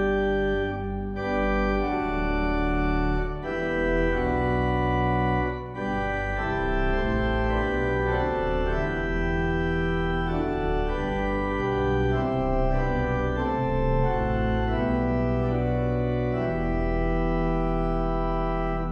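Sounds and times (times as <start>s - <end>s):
organ chords: 0.0s - 18.9s.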